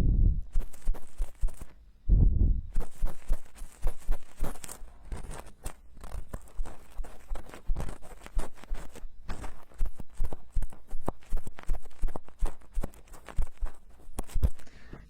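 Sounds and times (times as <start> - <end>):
tools scraping microphone ears: 0.5 - 1.8, 2.7 - 15.0.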